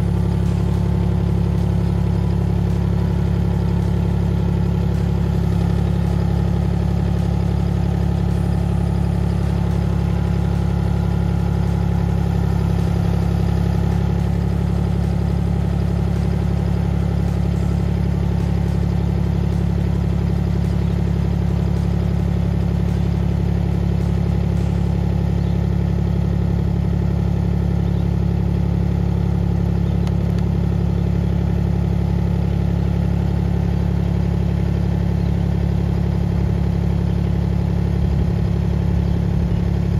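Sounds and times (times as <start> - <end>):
excavator engine humming: 0.0 - 39.9.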